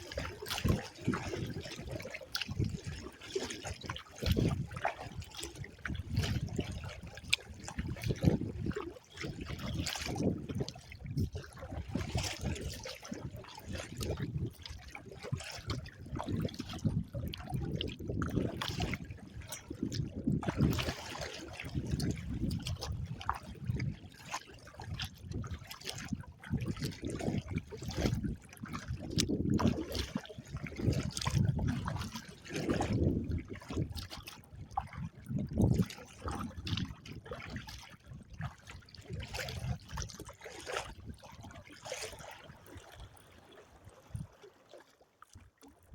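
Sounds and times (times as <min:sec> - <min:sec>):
water splashing off a paddle: 0:00.0 - 0:45.9.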